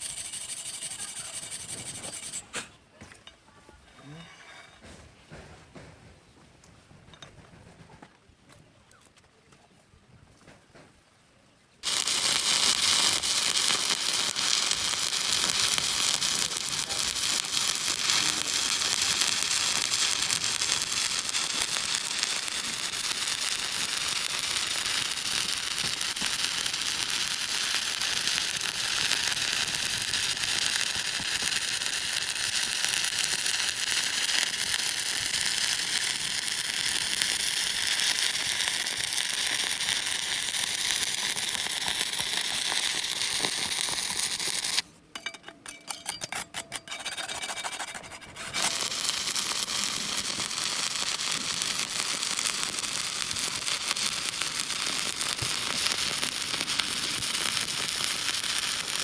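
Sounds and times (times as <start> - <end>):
welding arc crackling and sizzling: 0.0 - 2.5, 11.8 - 44.9, 46.8 - 59.0.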